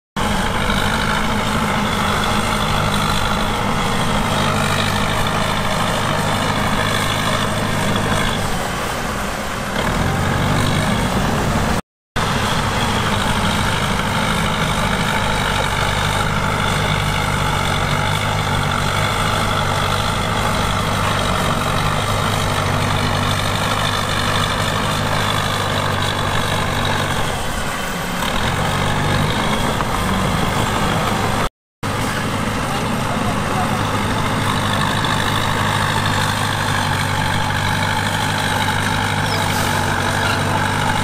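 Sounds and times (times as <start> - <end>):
heavy diesel engine running: 0.2 - 41.0.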